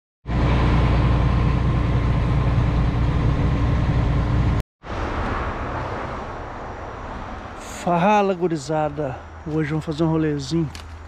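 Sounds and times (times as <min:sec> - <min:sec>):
outdoor noise: 0:00.2 - 0:11.0
boat engines droning: 0:00.3 - 0:10.6.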